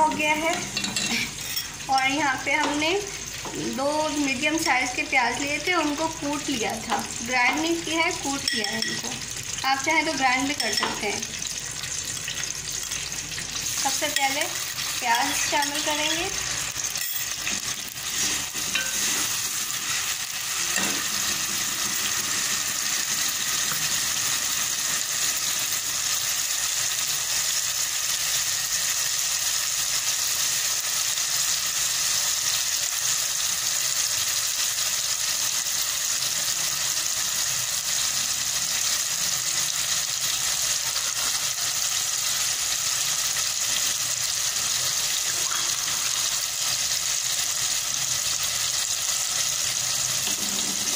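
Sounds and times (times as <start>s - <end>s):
onions sizzling in hot oil: 0.0s - 50.9s.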